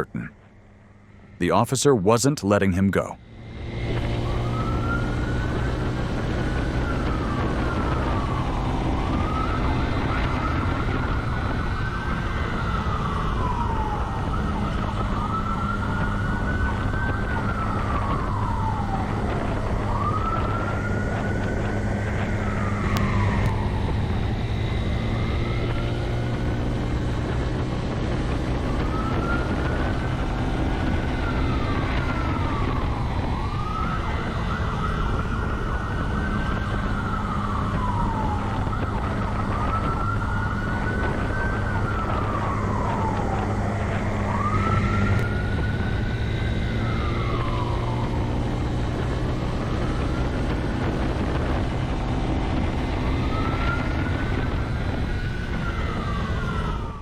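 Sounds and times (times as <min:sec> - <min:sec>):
patrol car engine drone: 0:00.0 - 0:57.0
police siren wailing: 0:01.4 - 0:57.0.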